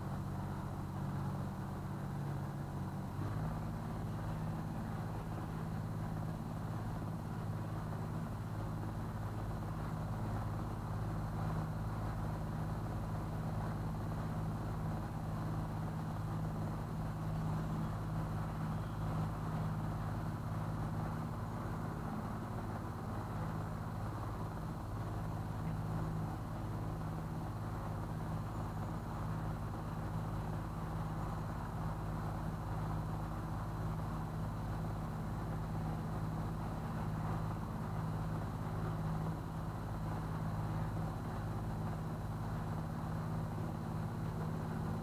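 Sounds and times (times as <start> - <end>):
boat engine running: 0.0 - 45.0
faint rush of water: 0.0 - 45.0.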